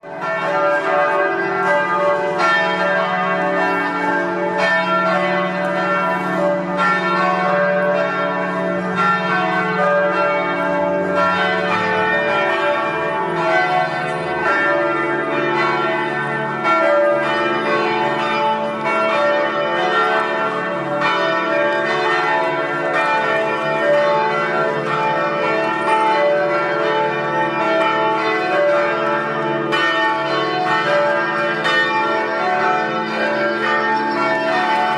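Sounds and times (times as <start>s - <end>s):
church bells pealing: 0.0s - 34.9s.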